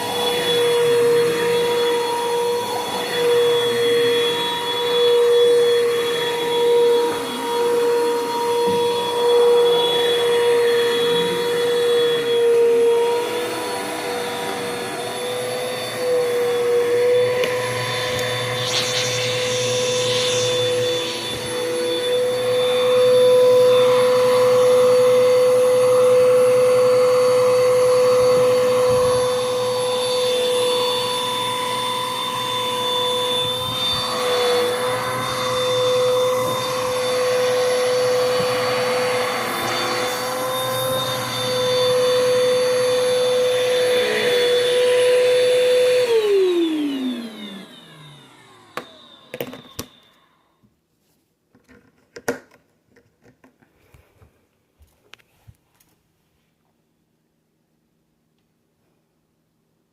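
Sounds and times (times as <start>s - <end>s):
vacuum cleaner motor whine: 0.0s - 50.7s.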